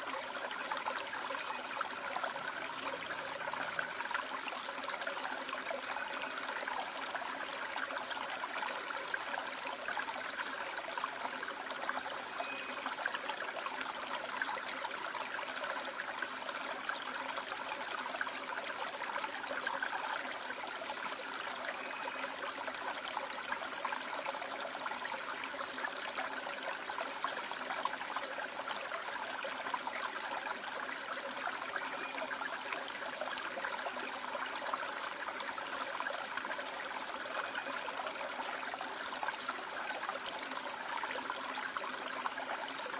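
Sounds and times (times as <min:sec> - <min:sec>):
stream water rushing over rocks: 0:00.0 - 0:42.9.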